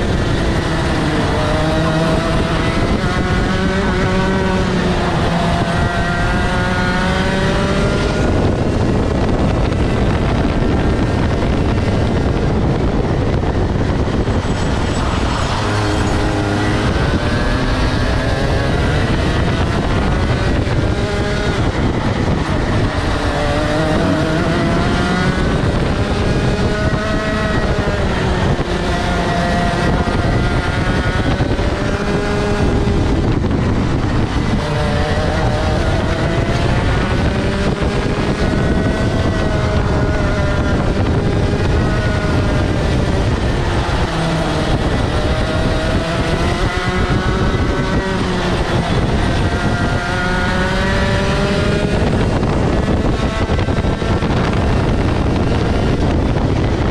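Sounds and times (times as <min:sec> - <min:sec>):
kart engine revving: 0:00.0 - 0:56.9.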